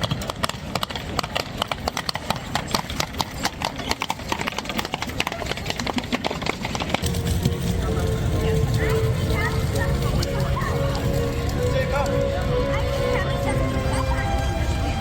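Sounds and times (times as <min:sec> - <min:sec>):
hooves clip-clopping on cobblestones: 0:00.0 - 0:15.0.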